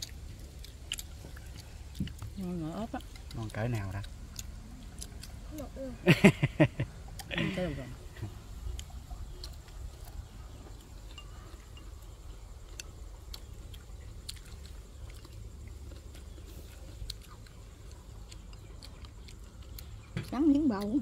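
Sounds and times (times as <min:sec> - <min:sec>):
chewing: 0:00.0 - 0:21.0
low steady rumble: 0:00.0 - 0:21.0.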